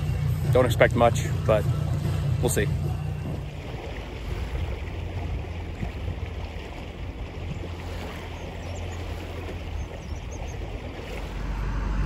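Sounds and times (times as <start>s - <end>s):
boat motor rumbling: 0.0s - 12.0s
water and wind hiss: 0.0s - 12.0s.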